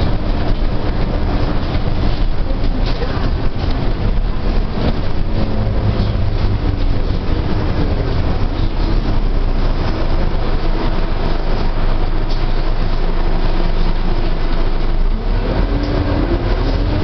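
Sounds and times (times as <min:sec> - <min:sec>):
bus body rattling: 0:00.0 - 0:17.0
bus engine and road rumble: 0:00.0 - 0:17.0.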